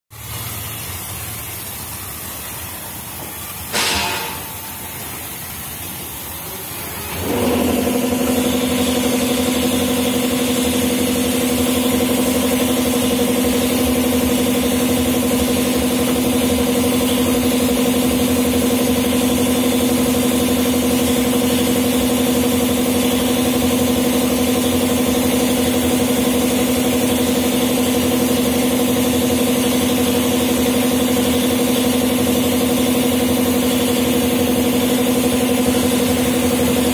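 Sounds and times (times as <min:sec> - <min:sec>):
foam gun hissing: 0:00.2 - 0:36.9
loud burst of air: 0:00.2 - 0:36.9
machine motor humming: 0:06.5 - 0:36.9.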